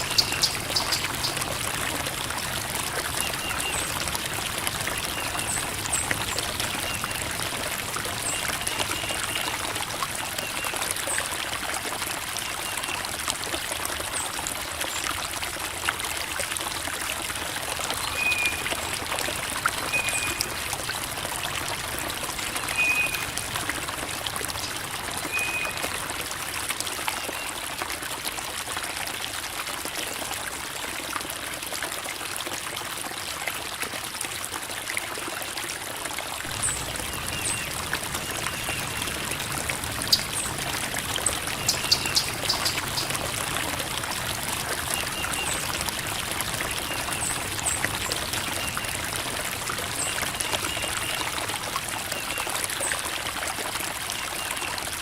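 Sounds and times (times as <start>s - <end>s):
creek water babbling over rocks: 0.0s - 55.0s.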